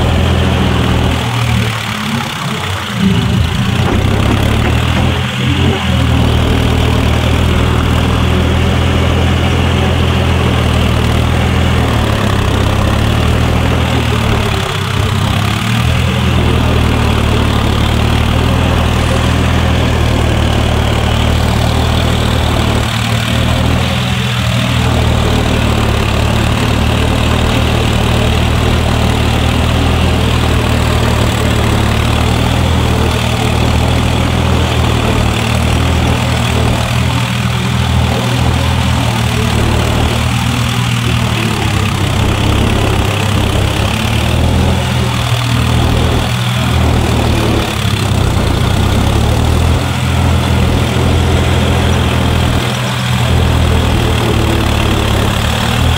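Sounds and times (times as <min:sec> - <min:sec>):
tractor diesel engine under load: 0:00.0 - 0:55.9.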